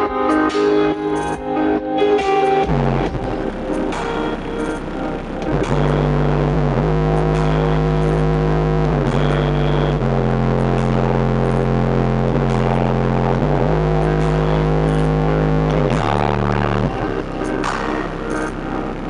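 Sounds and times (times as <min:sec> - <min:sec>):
bass-heavy music through car speakers: 0:00.0 - 0:19.0.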